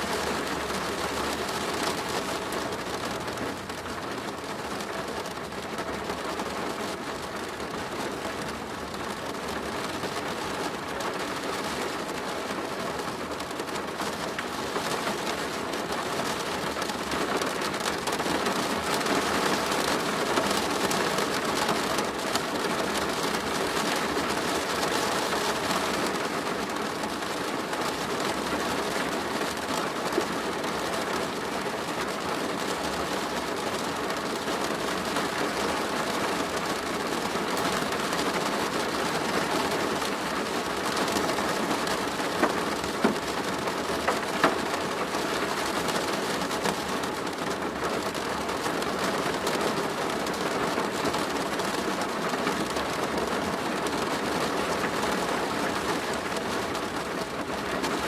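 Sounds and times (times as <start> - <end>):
rain drumming on plastic roof: 0.0 - 58.0.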